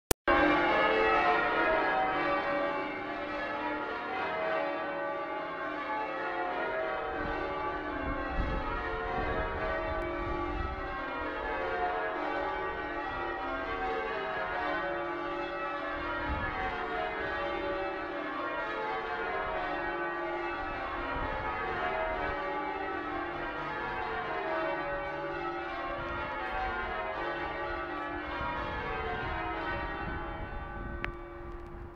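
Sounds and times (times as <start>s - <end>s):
church bells ringing a peal: 0.3s - 31.9s.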